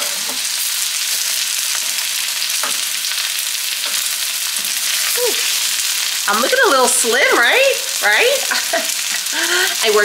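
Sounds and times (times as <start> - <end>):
sausage sizzling in frying pan: 0.0 - 10.0.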